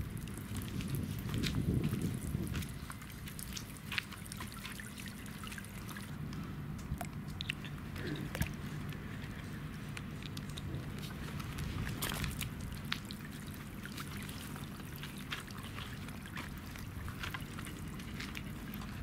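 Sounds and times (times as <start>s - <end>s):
low steady hum: 0.0s - 19.0s
water dripping and trickling: 0.0s - 19.0s.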